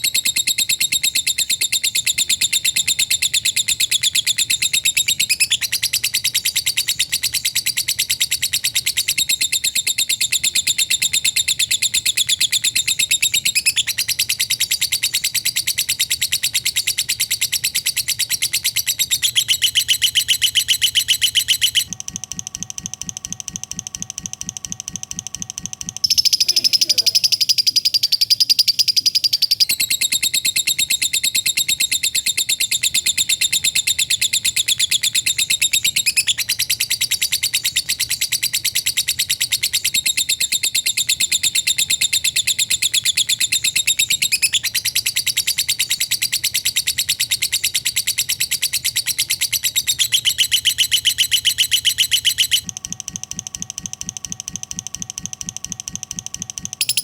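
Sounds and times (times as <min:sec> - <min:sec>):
lovebird chattering trill: 0:00.0 - 0:22.0, 0:25.4 - 0:52.7, 0:56.8 - 0:57.0.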